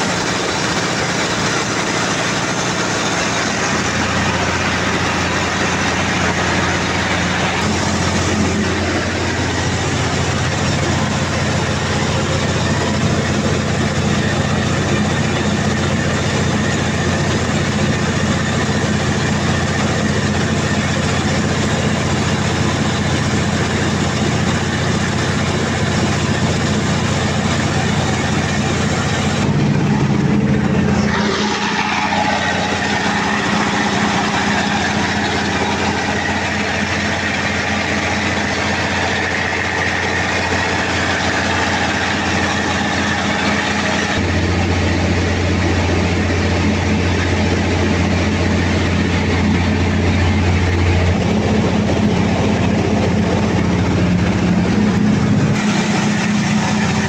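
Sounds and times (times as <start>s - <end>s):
whine falling in pitch: 0.0s - 21.3s, 26.4s - 57.0s
diesel generator engine humming: 0.0s - 57.0s.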